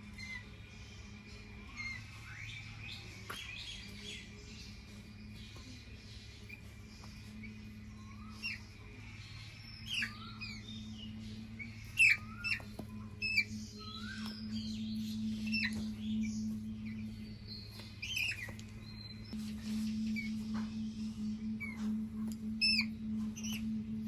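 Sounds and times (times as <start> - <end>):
faint low hum: 0.0 - 24.0
small birds chirping: 0.0 - 24.0.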